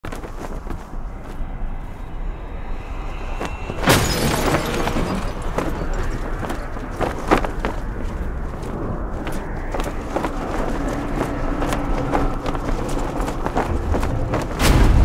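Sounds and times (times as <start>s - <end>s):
street ambience: 0.0s - 15.0s.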